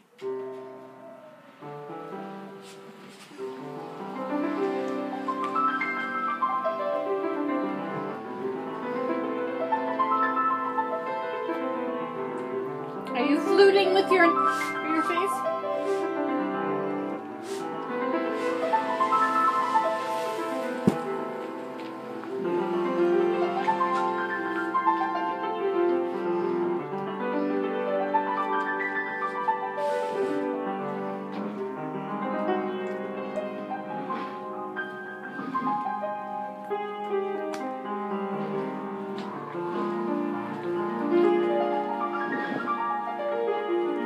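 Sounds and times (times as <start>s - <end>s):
piano melody with sustained notes: 0.0s - 44.0s.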